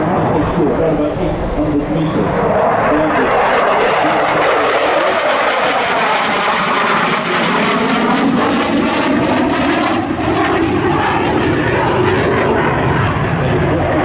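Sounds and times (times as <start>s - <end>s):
fighter jet flying: 0.0s - 14.0s.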